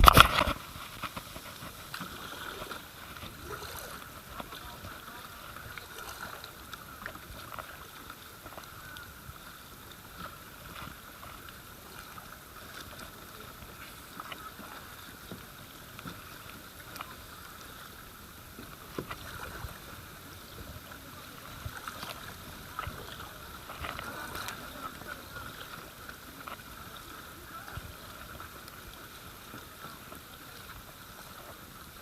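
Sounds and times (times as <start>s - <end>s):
paddle splashes and knocks: 0.0s - 32.0s
river water running: 0.0s - 32.0s.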